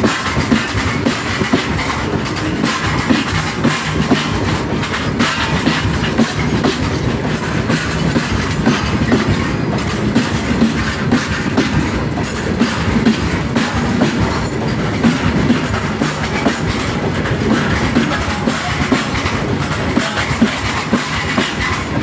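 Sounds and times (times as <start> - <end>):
train wheels rumbling and clattering: 0.0 - 22.0.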